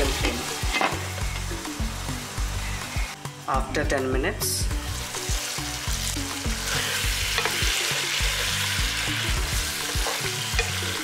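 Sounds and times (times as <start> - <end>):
chicken sizzling in oil: 0.0 - 3.5, 4.6 - 11.0.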